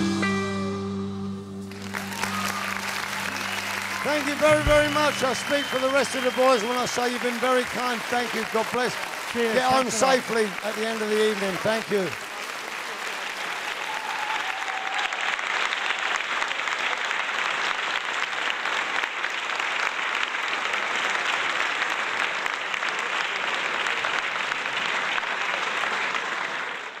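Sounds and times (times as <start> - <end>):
audience clapping: 1.7 - 27.0.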